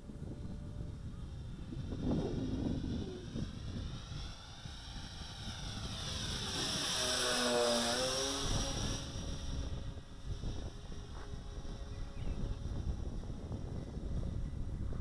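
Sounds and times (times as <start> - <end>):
model plane propeller whine: 0.0 - 15.0
wind noise on microphone: 0.0 - 15.0.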